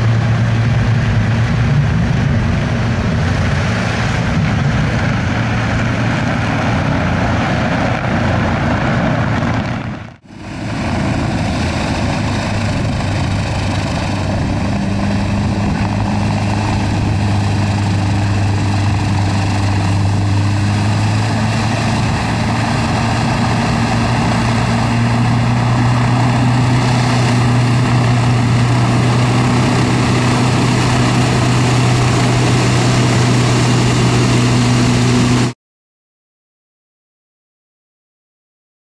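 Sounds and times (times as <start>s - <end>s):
deep hum: 0.0s - 35.6s
hovercraft engine and fan drone: 0.0s - 35.6s.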